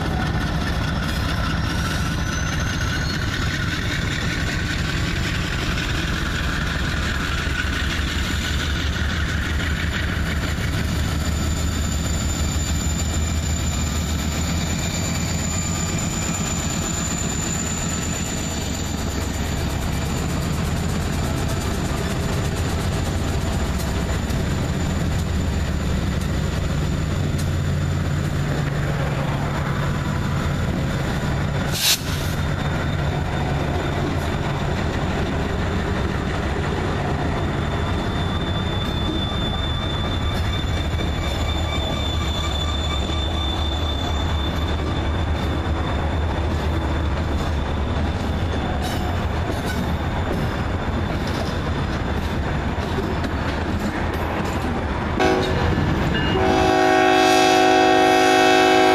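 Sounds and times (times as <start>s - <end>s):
diesel locomotives rumbling: 0.0s - 58.9s.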